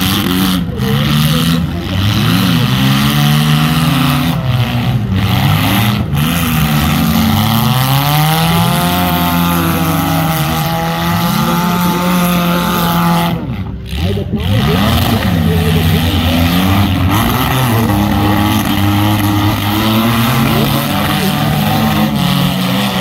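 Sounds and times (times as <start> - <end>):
car engines revving: 0.0 - 23.0
engine long high rev: 0.0 - 23.0.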